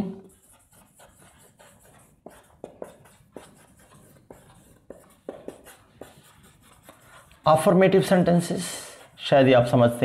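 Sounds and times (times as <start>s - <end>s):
marker squeaking on whiteboard: 0.0s - 10.0s.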